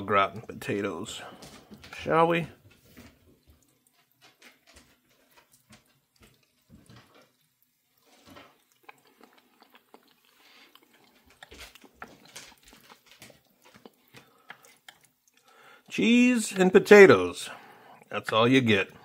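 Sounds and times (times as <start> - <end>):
wet chewing: 0.3 - 16.0, 17.5 - 19.0.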